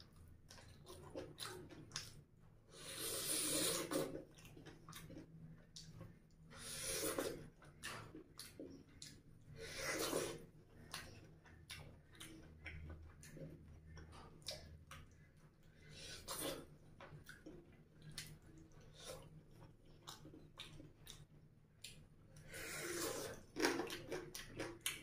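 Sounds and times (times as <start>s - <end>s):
person chewing: 0.5s - 15.2s, 16.1s - 25.0s.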